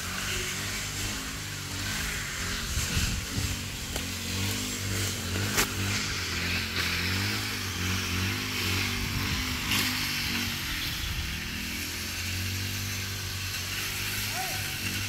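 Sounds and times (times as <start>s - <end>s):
constant hiss: 0.0s - 15.0s
engine humming: 0.0s - 15.0s.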